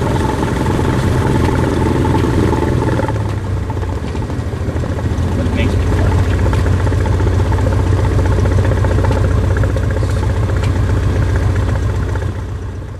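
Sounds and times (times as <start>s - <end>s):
propeller plane engine droning: 0.0s - 12.9s.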